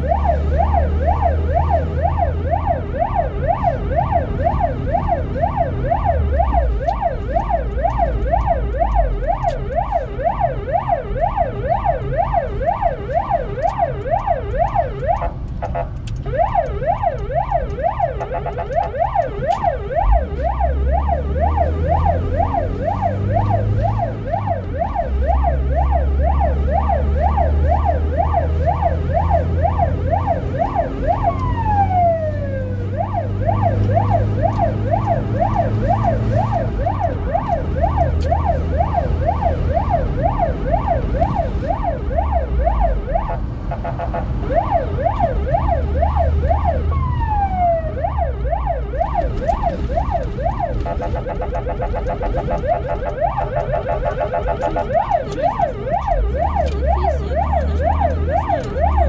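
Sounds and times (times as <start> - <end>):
ambulance siren yelping: 0.0 - 59.0
engine low rumble: 0.0 - 59.0.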